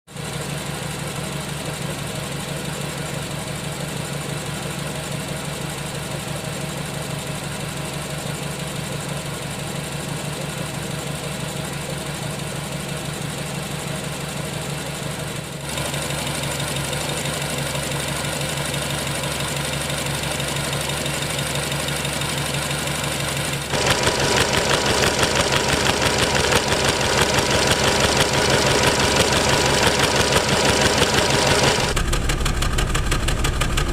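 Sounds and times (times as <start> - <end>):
petrol engine idling with misfire: 0.1 - 33.9.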